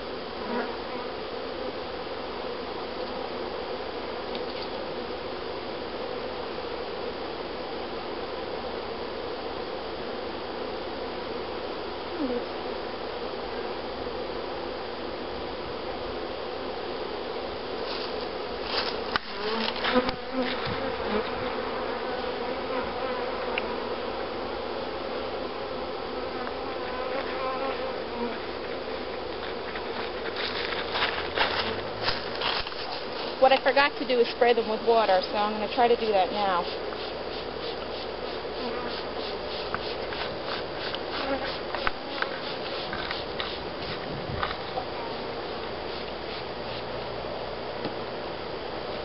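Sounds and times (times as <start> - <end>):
honey bees buzzing: 0.0 - 47.6.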